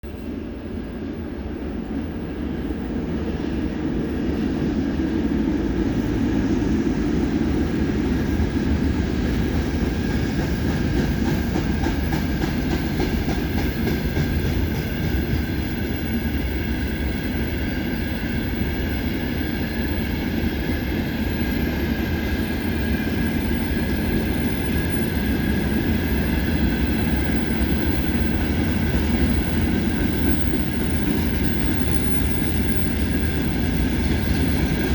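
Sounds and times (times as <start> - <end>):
freight train wheels rumbling on rails: 0.1 - 34.9.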